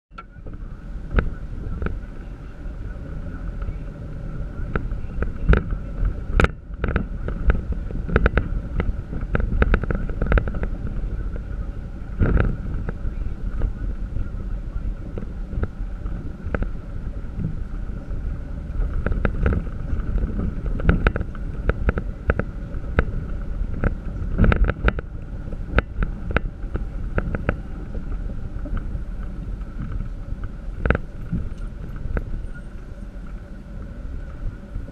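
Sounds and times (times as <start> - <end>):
engine and road rumble: 0.0 - 34.9.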